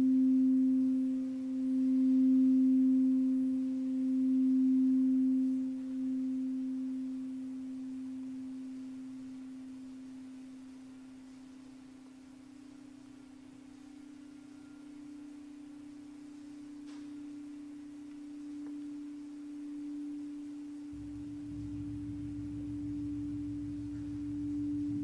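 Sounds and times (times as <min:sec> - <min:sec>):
sound bath pure tone ringing: 0:00.0 - 0:25.0.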